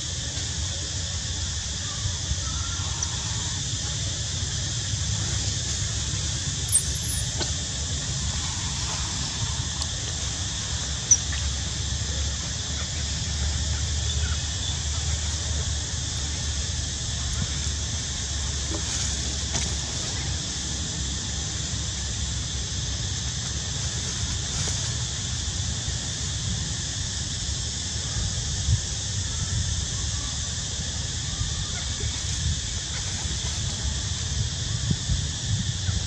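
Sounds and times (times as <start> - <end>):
constant high hiss: 0.0 - 36.0.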